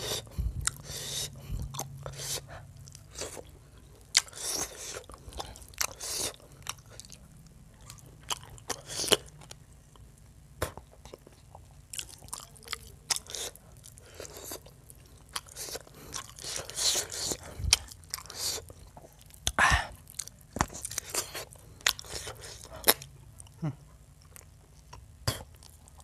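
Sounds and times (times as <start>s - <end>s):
person chewing with wet mouth smacks: 0.0s - 7.2s, 10.6s - 26.0s.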